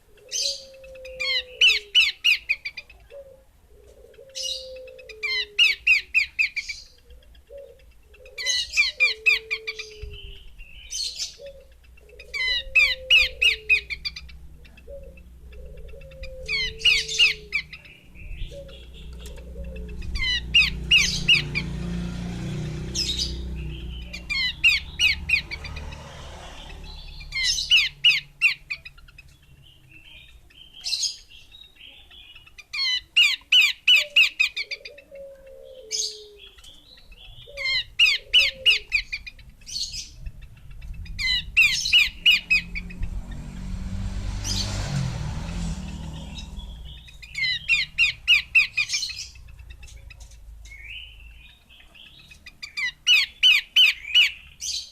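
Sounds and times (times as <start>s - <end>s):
low rumbling background noise: 0.0s - 33.4s, 36.4s - 53.8s
bird rapid chirping: 4.2s - 35.1s, 36.0s - 54.9s.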